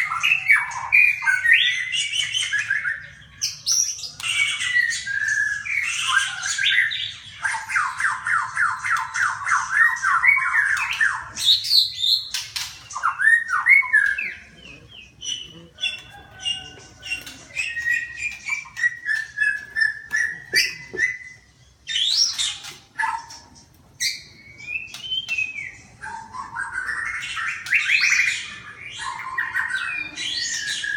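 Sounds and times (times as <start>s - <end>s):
bird squawks and chirps: 0.0s - 30.9s
birds chattering trill: 0.0s - 30.9s.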